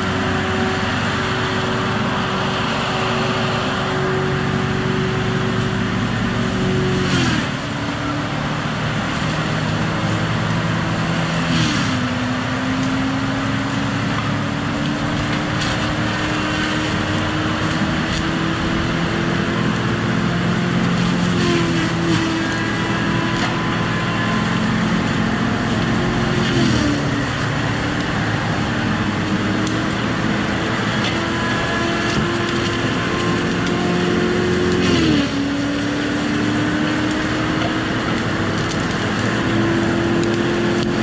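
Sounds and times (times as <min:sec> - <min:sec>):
heavy diesel machine running: 0:00.0 - 0:41.0.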